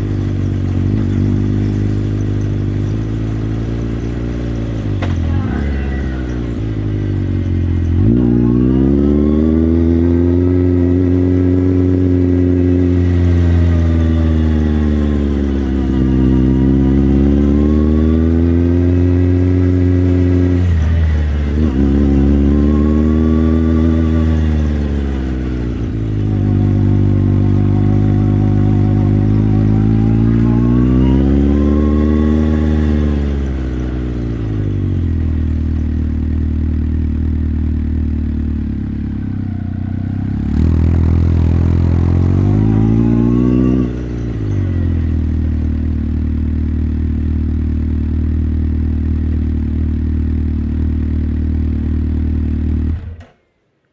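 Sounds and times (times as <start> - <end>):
motorcycle engine revving: 0.0 - 53.4.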